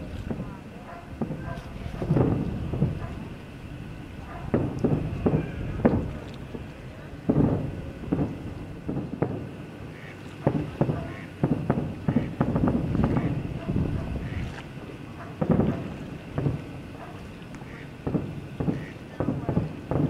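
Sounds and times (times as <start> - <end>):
fireworks launching and booming: 0.0 - 20.0.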